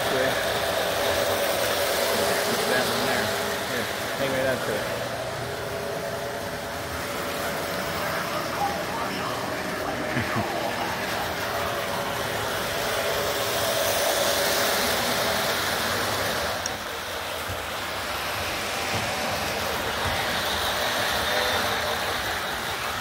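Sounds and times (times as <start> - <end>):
model train whirring: 0.0 - 23.0.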